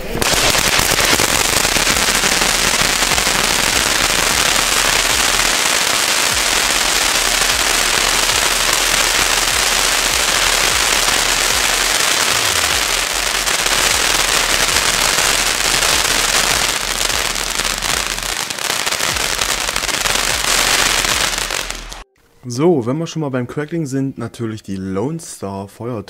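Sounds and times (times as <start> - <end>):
fireworks fountain crackling: 0.0 - 22.0
hiss of sparks: 0.0 - 22.0.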